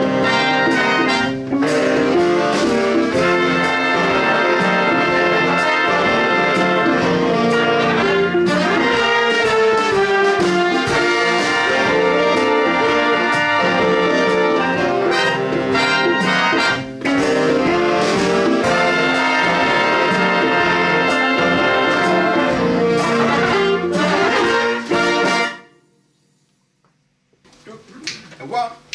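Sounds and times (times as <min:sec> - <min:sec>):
big band playing: 0:00.0 - 0:25.8
trumpets and trombones: 0:00.0 - 0:25.9.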